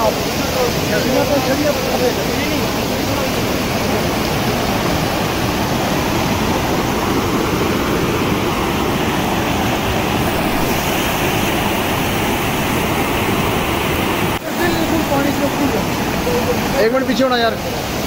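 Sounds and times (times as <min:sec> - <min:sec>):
floodwater rushing over boulders: 0:00.0 - 0:18.0.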